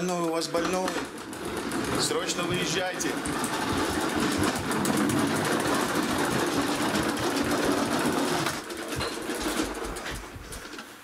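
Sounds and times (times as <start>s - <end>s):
toy wheels rattling on wood floor: 0.0s - 11.0s.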